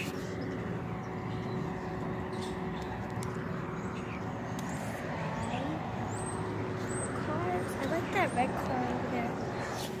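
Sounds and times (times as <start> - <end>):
distant street traffic hum: 0.0 - 10.0.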